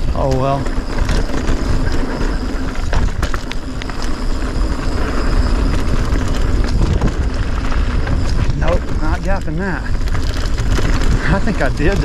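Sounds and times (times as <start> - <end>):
bike rattling: 0.0 - 12.0
bike tyres rumbling on dirt: 0.0 - 12.0.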